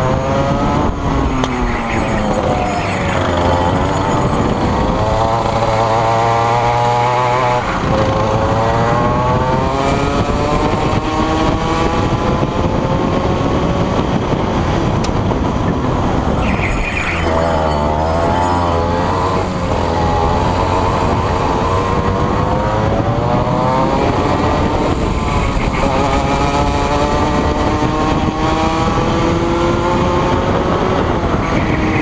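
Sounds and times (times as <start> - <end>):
kart engine at racing speed: 0.0 - 32.0.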